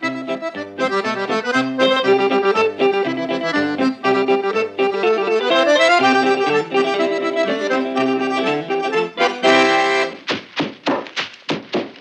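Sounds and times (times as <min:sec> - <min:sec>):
accordion music: 0:00.0 - 0:10.3.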